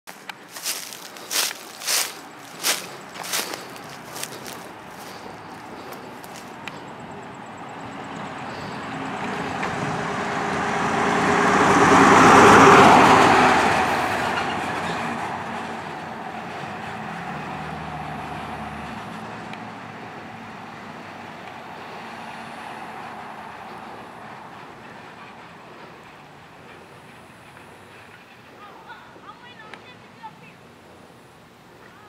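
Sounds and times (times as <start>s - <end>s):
fire truck driving past: 0.1s - 32.0s.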